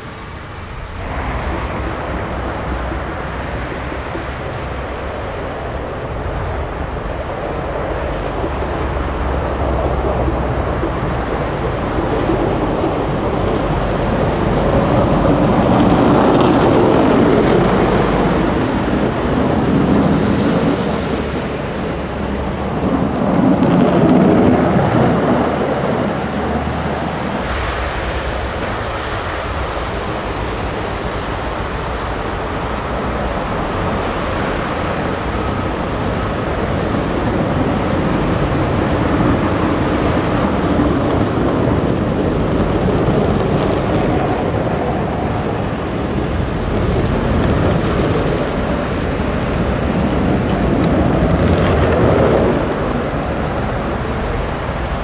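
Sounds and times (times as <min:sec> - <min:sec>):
diesel truck engines: 0:00.0 - 0:55.0
plow blades scraping road: 0:00.0 - 0:55.0.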